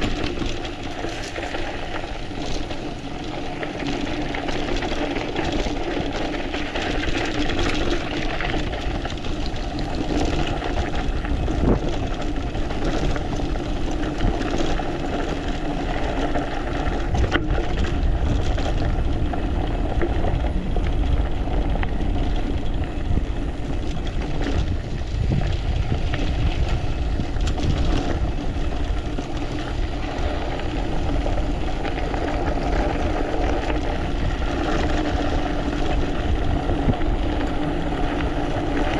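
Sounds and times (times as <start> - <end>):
tyres rolling over gravel: 0.0 - 38.9
wind rushing over microphone: 4.2 - 38.9.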